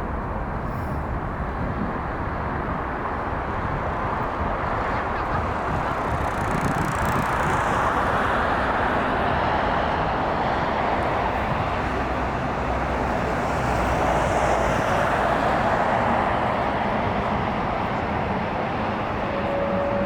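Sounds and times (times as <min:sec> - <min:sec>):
jet engines at takeoff thrust: 0:00.0 - 0:20.0.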